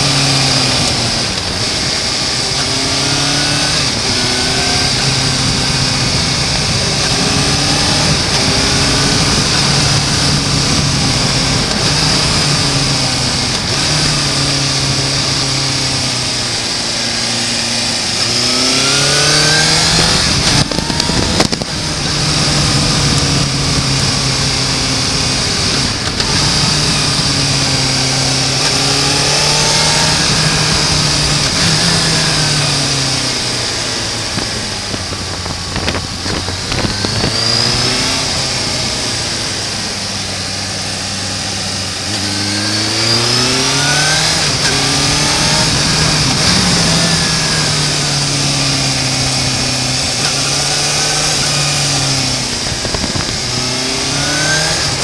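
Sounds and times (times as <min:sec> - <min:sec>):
motorcycle engine running: 0:00.0 - 0:55.0
rough rush of noise: 0:00.0 - 0:55.0.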